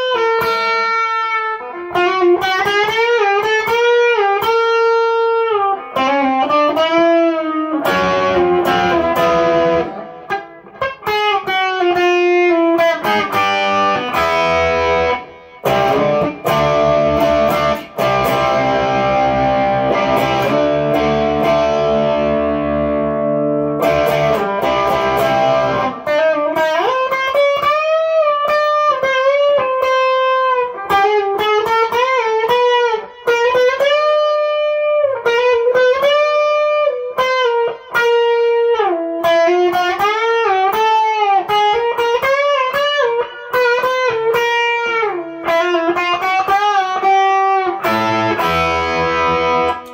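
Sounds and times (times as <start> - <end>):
loud electric guitar: 0.0 - 49.9.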